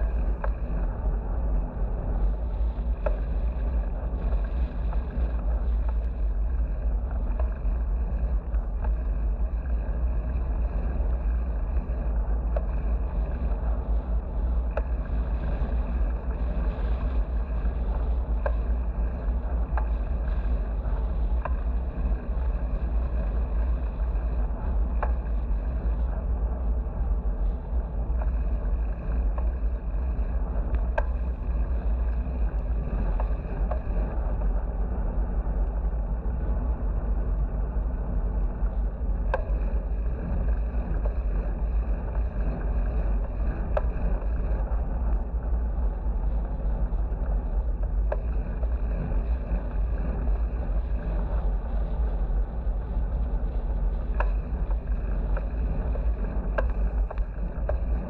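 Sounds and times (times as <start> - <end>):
wind rumble on microphone: 0.0 - 58.0
light sharp ticks: 2.2 - 26.8, 27.4 - 37.5, 38.5 - 58.0.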